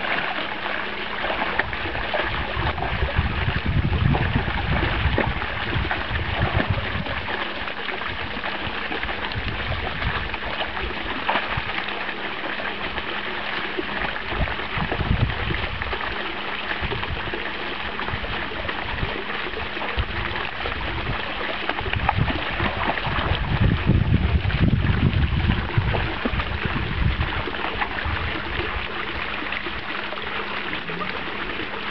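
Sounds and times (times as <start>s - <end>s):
fountain jet splashing into pond: 0.0s - 31.9s
puppy splashing in water: 0.0s - 31.9s.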